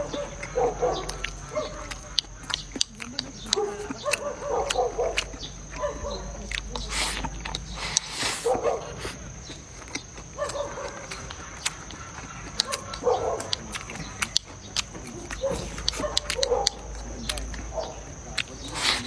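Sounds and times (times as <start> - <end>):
dog barking: 0.0 - 9.2, 9.8 - 19.0.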